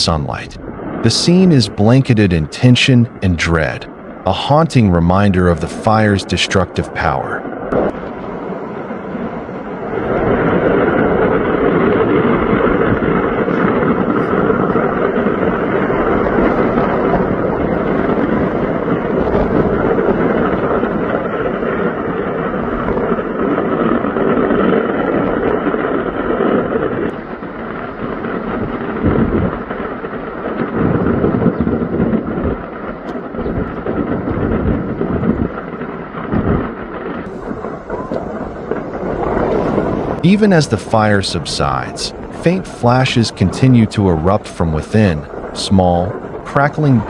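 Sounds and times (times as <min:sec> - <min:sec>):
large fire burning: 0:00.0 - 0:47.0
wind on microphone: 0:07.5 - 0:27.2, 0:27.9 - 0:47.0.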